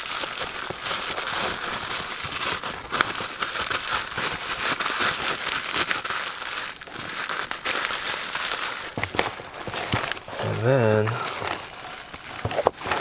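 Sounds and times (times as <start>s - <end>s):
wrapping material crinkling: 0.0s - 13.0s.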